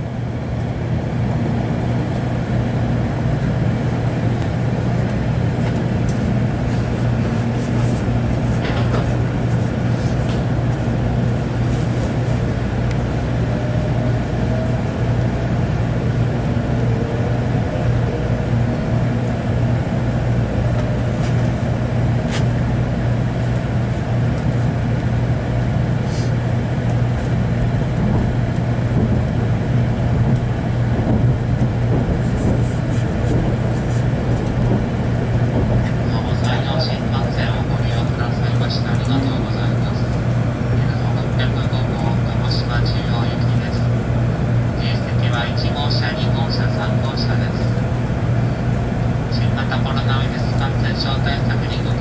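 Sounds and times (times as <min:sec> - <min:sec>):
train hum and rumble: 0:00.0 - 0:52.0.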